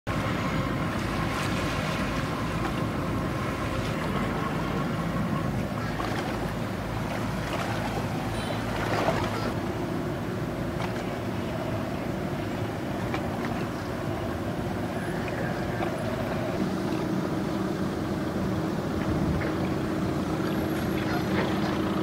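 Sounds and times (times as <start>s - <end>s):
boat engines rumbling: 0.1s - 22.0s
water washing at bows: 0.1s - 22.0s.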